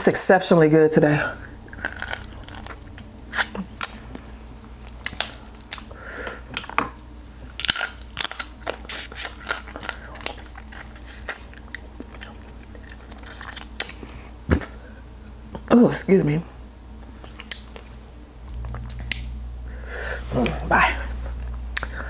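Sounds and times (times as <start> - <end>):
person chewing: 1.4 - 15.6, 17.0 - 20.6, 21.2 - 22.0.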